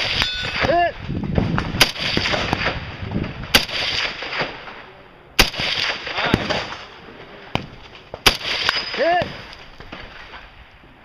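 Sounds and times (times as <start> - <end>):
rifle shots with echo: 0.0 - 10.4.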